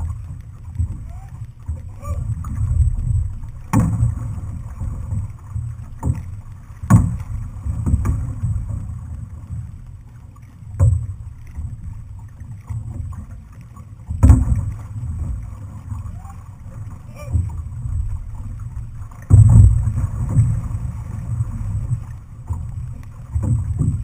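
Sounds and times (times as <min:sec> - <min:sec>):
water along hull: 0:00.0 - 0:24.0.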